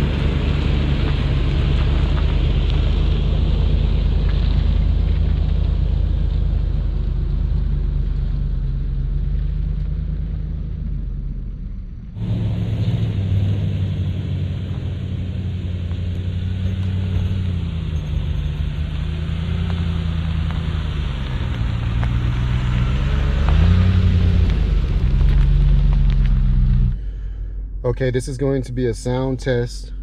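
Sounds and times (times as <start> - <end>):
car engine drone inside cabin: 0.0 - 30.0
road noise: 0.0 - 30.0.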